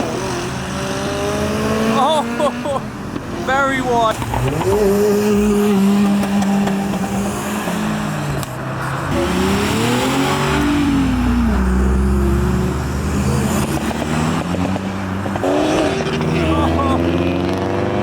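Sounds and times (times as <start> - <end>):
car engine revving: 0.0 - 18.0
drone of car engines: 0.0 - 18.0.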